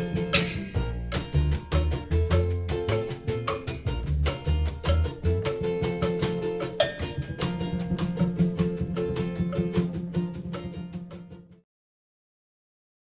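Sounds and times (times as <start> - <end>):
fast plucked-string strumming: 0.0 - 11.6
steady bass: 0.0 - 11.6.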